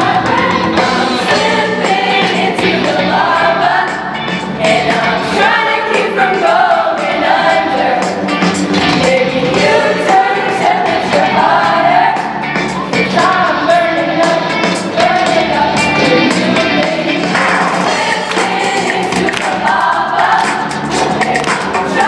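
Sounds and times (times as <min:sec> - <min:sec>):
choir singing upbeat song: 0:00.0 - 0:22.0
instrumental accompaniment: 0:00.0 - 0:22.0.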